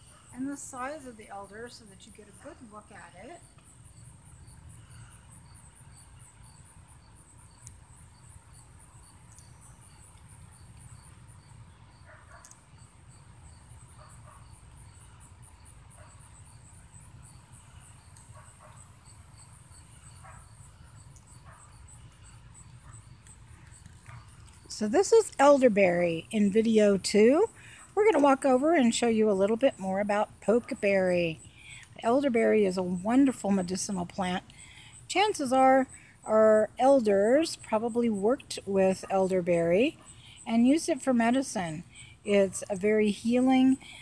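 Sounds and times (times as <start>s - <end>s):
insect chirping: 0.0s - 44.0s.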